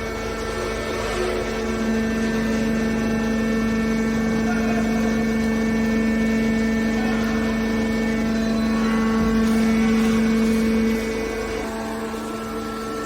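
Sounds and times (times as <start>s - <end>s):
hydraulic pump humming: 0.0s - 13.0s
mechanical noise: 0.0s - 13.0s.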